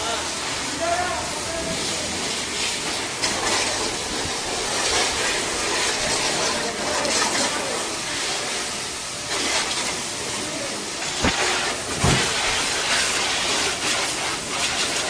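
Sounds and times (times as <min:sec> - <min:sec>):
high-pressure water spray hissing: 0:00.0 - 0:15.0.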